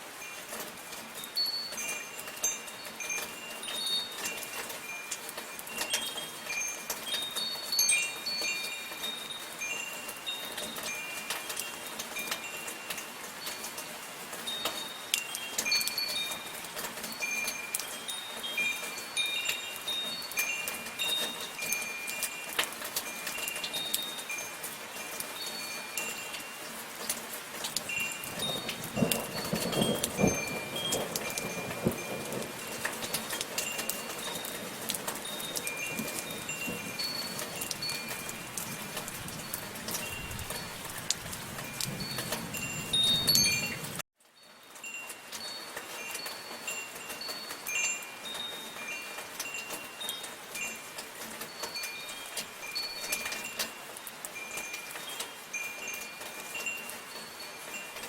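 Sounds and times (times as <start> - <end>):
soft rain: 0.0 - 58.0
metal wind chimes ringing: 0.1 - 27.1, 27.7 - 58.0.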